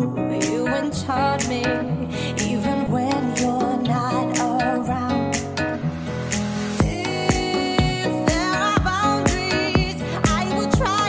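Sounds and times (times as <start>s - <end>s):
electronic pop music with singing: 0.0s - 11.0s.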